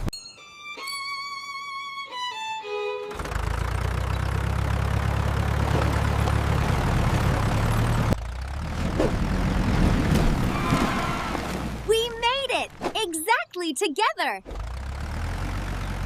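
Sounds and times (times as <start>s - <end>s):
tractor engines rumbling: 1.8s - 16.0s.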